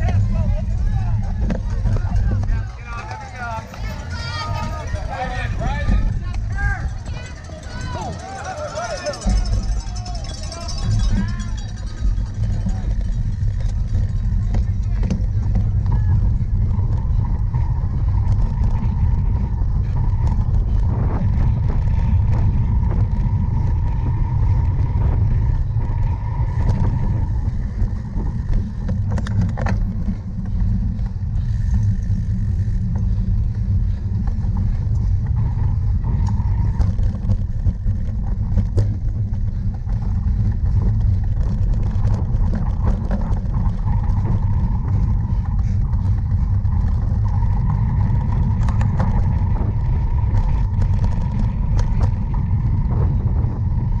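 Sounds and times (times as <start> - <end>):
bike rattling over rough ground: 0.0 - 54.0
wind rumble on microphone: 0.0 - 54.0.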